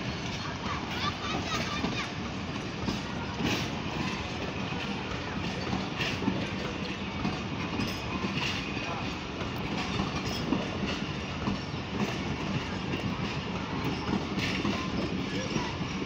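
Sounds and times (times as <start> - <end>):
train wheels clattering over joints: 0.0 - 16.0.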